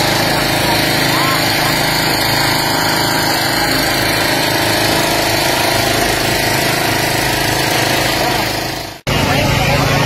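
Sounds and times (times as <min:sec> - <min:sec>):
small petrol engine running: 0:00.0 - 0:10.0.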